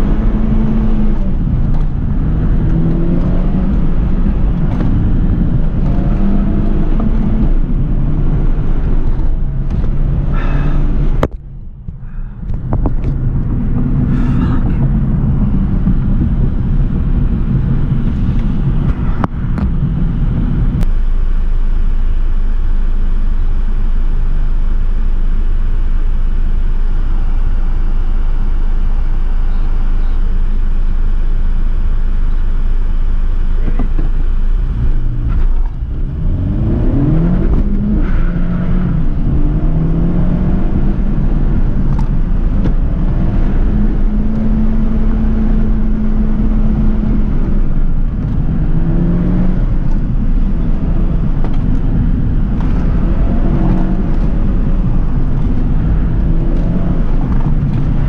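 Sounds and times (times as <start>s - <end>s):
car engine under load: 0.0s - 58.0s
low road rumble: 0.0s - 58.0s.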